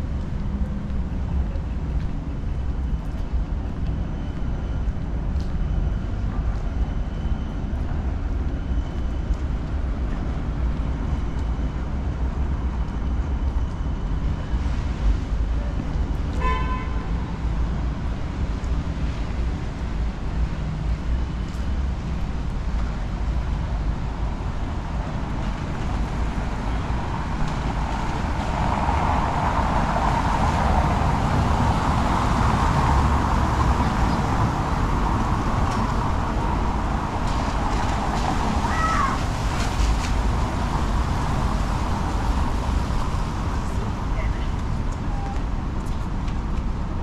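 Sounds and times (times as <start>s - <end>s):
low traffic rumble: 0.0s - 47.0s.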